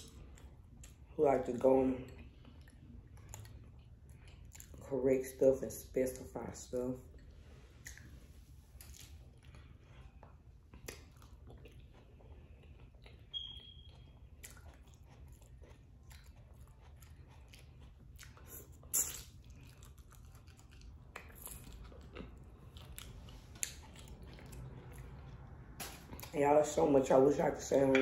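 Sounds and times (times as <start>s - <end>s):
person chewing food: 0.0s - 1.2s, 2.1s - 4.9s, 7.0s - 26.4s.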